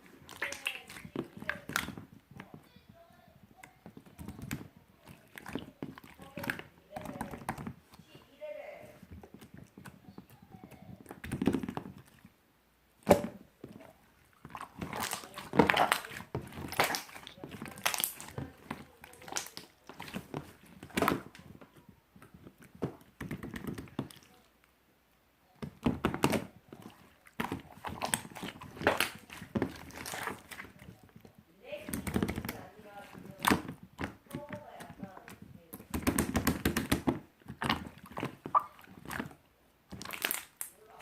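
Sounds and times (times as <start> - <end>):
slime squelching and popping: 0.0 - 12.4, 13.0 - 24.8, 25.6 - 41.0.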